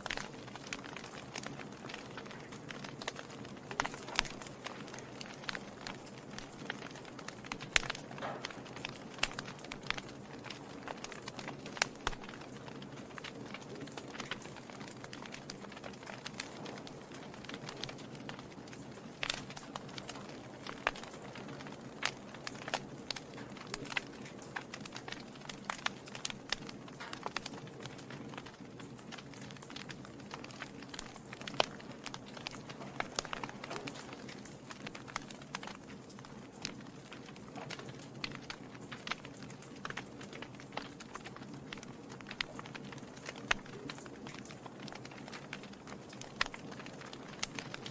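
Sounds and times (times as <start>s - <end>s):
logs crackling and popping: 0.0s - 47.9s.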